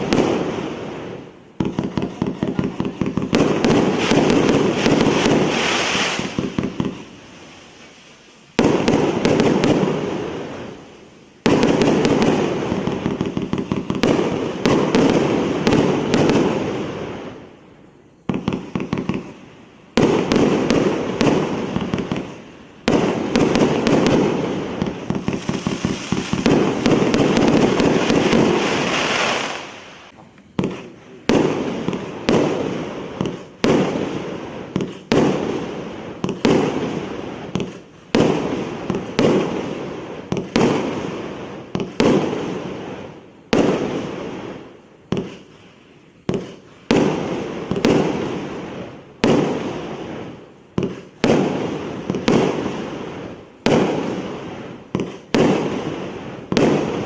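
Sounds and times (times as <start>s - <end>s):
fireworks cake bangs and crackle: 0.0s - 57.0s.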